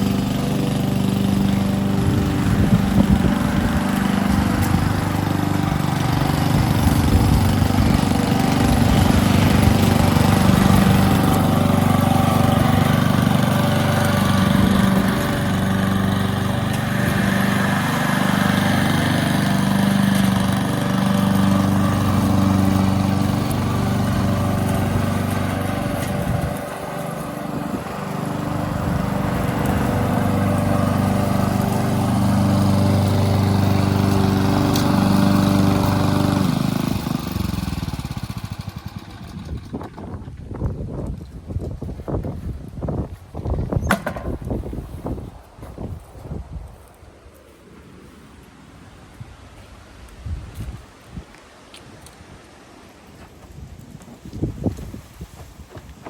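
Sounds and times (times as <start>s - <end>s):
lawn mower running: 0.0s - 45.4s.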